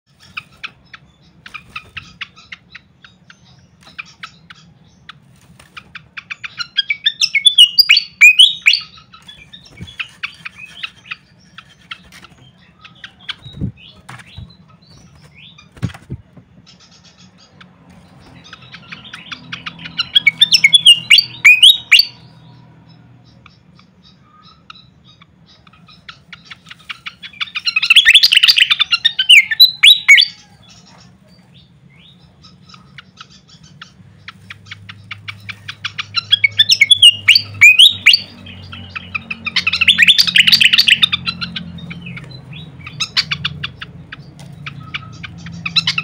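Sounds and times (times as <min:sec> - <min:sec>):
bird singing: 0:00.1 - 0:46.0.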